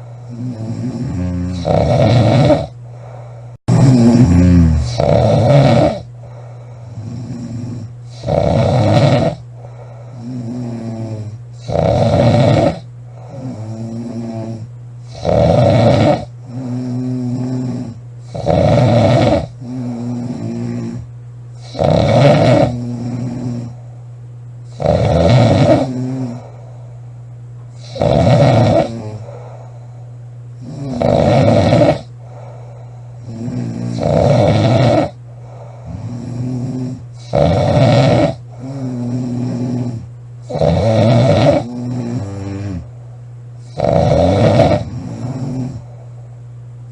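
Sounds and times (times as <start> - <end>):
woman snoring loudly: 0.2 - 23.8, 24.7 - 26.6, 27.8 - 29.7, 30.6 - 42.9, 43.7 - 46.0.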